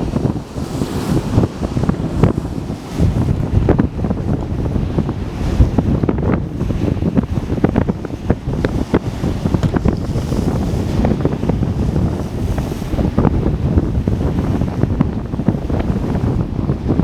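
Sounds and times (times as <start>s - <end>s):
waves crashing onto shore: 0.0s - 17.0s
wind buffeting microphone: 0.0s - 17.0s.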